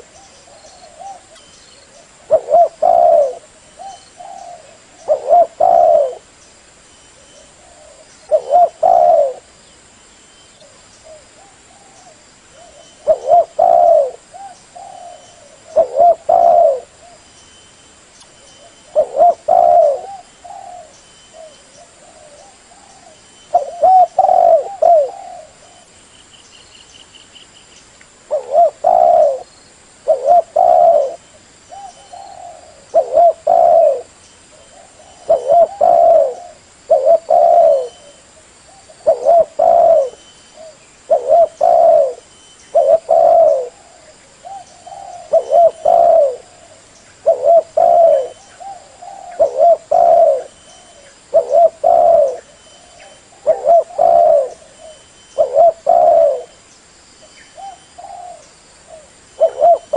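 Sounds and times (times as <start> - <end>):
dove cooing: 0.0 - 6.3, 7.2 - 9.6, 10.6 - 17.3, 18.6 - 25.9, 28.3 - 56.6, 57.4 - 59.9.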